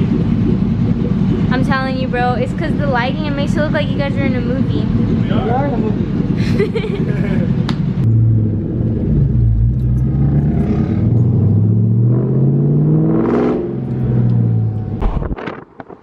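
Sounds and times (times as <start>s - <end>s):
motorcycle engine revving: 0.0s - 15.4s.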